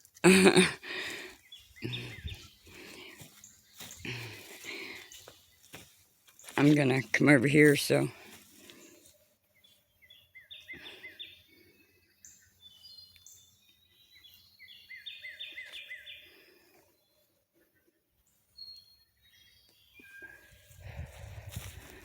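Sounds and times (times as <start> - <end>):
songbirds chirping faintly: 0.0 - 22.0.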